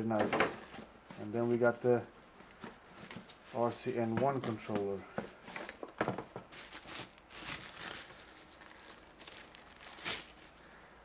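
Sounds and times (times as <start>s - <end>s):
packaging rustling and crinkling: 0.1s - 10.8s.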